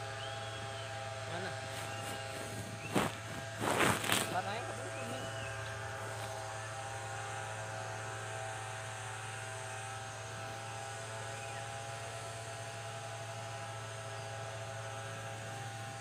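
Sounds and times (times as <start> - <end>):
steady motor hum: 0.0 - 16.0.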